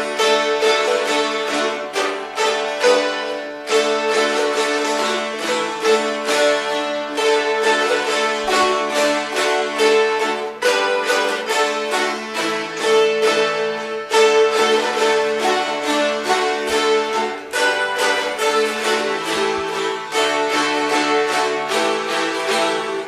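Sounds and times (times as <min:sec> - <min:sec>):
dulcimers strummed: 0:00.0 - 0:23.0.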